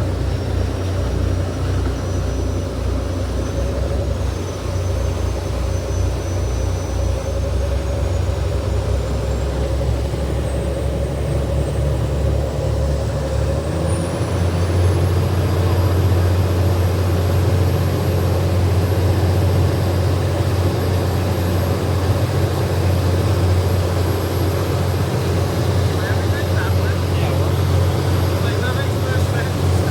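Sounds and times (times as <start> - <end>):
ferry engine drone: 0.0 - 29.9
high engine whine: 0.0 - 29.9.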